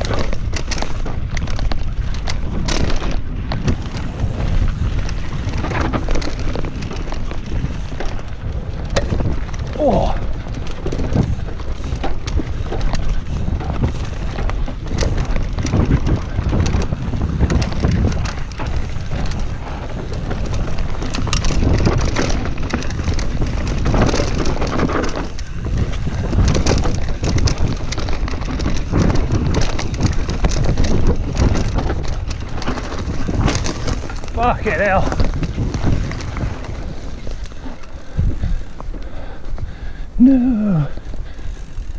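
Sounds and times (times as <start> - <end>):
bike clattering over roots: 0.0 - 41.9
tyres on dirt: 0.0 - 41.9
wind buffeting microphone: 0.0 - 41.9.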